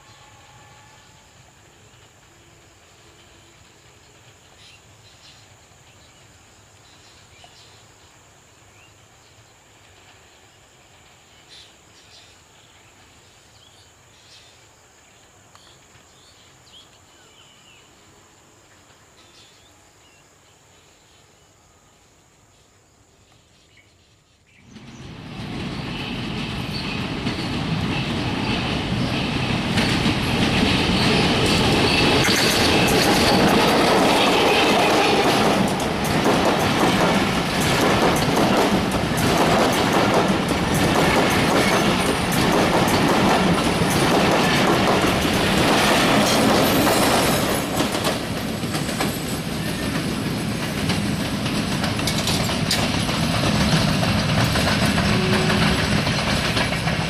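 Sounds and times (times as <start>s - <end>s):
passenger train passing: 0.0s - 23.2s, 24.5s - 57.0s.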